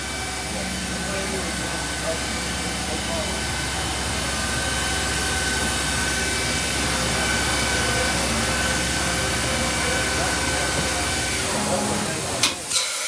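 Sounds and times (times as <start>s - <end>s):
cnc machine whirring: 0.0s - 13.0s.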